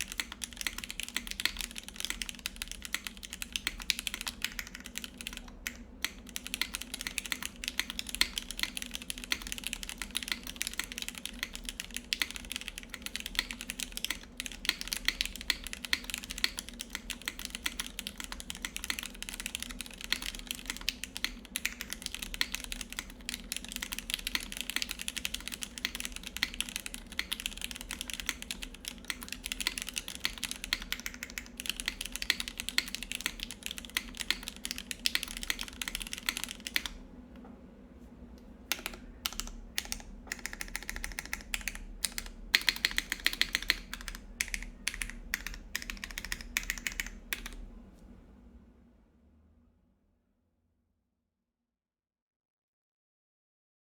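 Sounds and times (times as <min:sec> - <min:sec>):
fast typing on mechanical keyboard: 0:00.0 - 0:37.0, 0:38.7 - 0:47.6.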